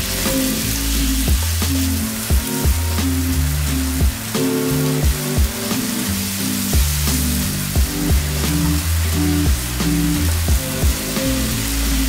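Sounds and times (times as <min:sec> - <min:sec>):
background music: 0:00.0 - 0:12.0
food sizzling in a pan: 0:00.0 - 0:12.0.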